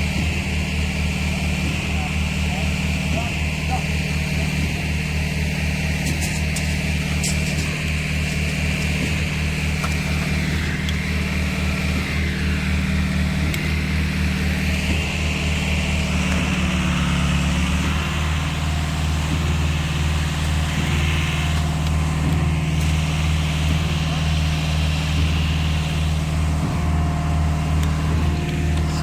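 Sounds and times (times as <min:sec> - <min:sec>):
pump engine running: 0:00.0 - 0:29.0
wavering whine: 0:00.0 - 0:29.0.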